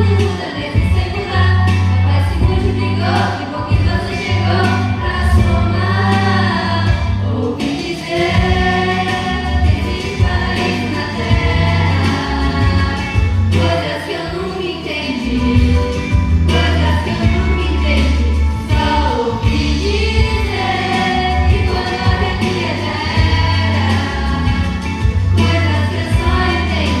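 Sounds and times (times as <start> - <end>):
choir singing: 0.0 - 27.0
instrumental backing with bass notes: 0.0 - 27.0.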